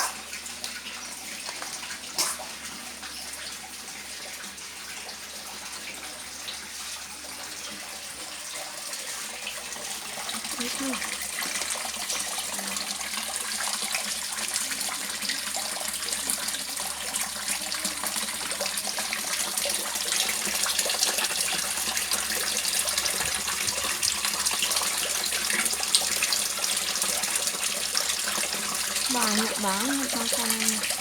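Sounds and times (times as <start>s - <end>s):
water splashing into a pond: 0.0s - 31.0s.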